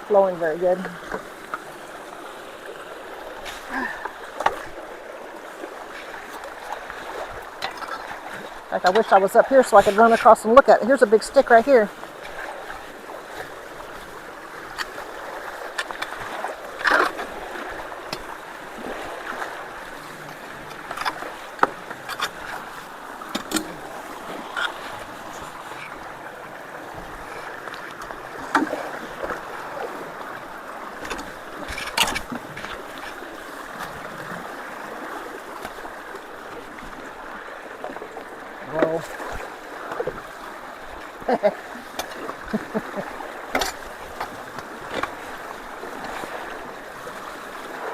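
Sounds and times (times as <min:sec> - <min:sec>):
water rushing through culverts: 0:00.0 - 0:47.9.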